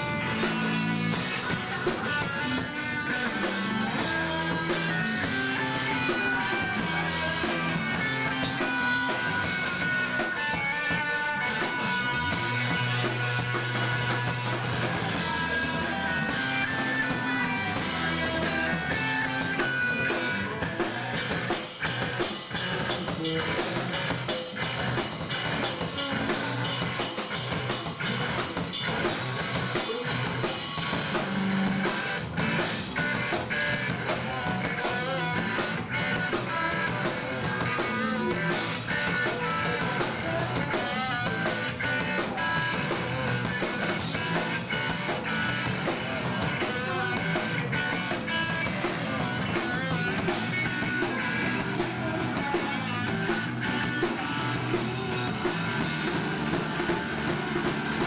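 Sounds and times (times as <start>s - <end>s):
electric guitars: 0.0s - 58.0s.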